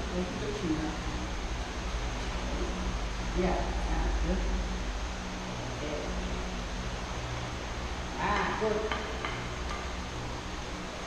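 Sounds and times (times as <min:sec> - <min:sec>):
background rumble and hiss: 0:00.0 - 0:11.0.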